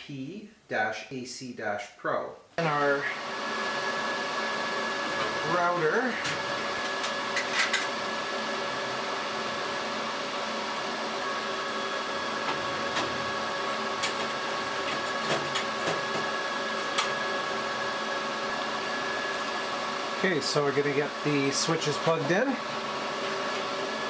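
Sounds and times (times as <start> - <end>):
server cooling fans humming: 2.6 - 24.0.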